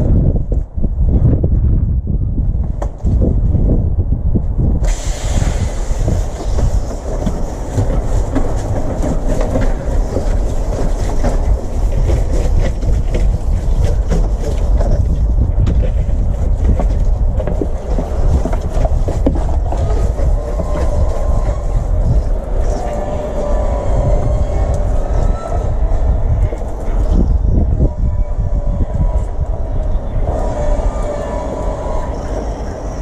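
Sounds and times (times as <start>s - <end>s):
wind rumbling on microphone: 0.0s - 33.0s.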